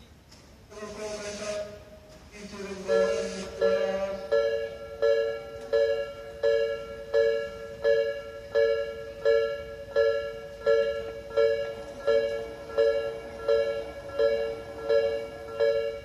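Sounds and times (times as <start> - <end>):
level crossing warning bell: 2.4 - 16.0.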